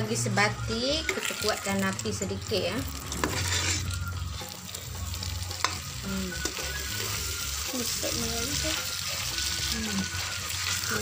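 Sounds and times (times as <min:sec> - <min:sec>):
chicken sizzling in a pot: 0:00.1 - 0:11.0
metal ladle stirring: 0:02.2 - 0:11.0.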